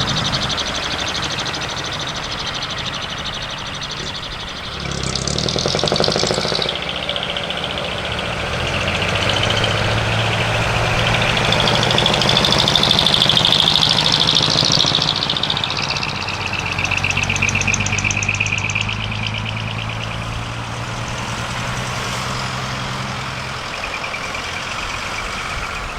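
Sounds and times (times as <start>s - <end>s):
truck diesel engine running: 0.0s - 25.9s.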